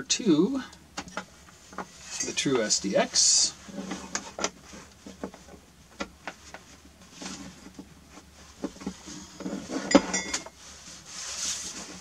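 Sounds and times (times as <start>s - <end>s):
rustling: 1.4s - 12.0s.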